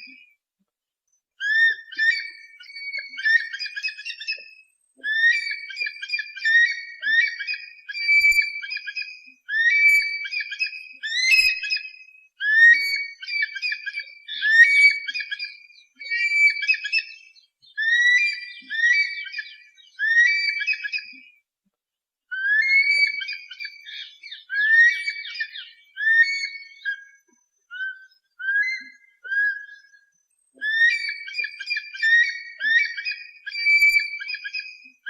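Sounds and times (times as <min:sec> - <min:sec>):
eagle whistled calls: 0:01.4 - 0:21.2, 0:22.3 - 0:35.0.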